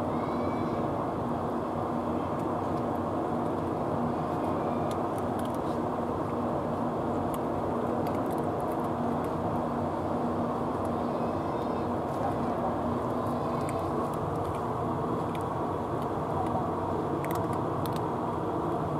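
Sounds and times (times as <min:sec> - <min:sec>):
low rumble with hum: 0:00.0 - 0:18.9
cats crunching dry food: 0:02.0 - 0:18.8.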